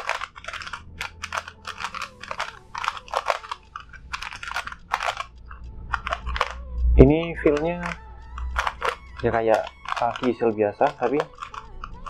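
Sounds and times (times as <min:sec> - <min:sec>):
speed cube plastic clicks: 0:00.0 - 0:06.7, 0:07.5 - 0:12.0.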